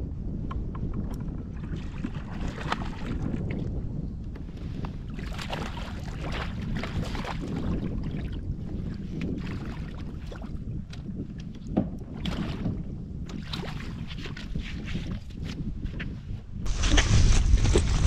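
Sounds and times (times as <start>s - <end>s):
wind rumbling on microphone: 0.0s - 18.0s
water splashing around kayak: 0.9s - 15.8s, 16.7s - 18.0s.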